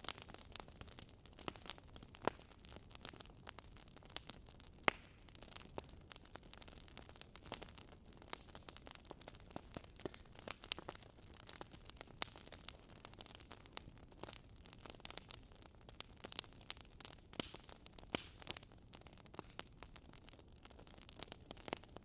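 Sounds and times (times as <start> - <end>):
faint steady hiss: 0.0 - 22.0
firewood crackling and popping: 0.0 - 22.0.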